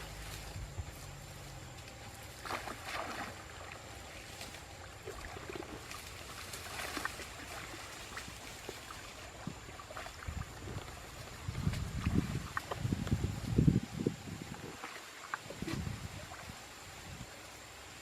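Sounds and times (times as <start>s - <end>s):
water sloshing and splashing: 0.0s - 17.7s.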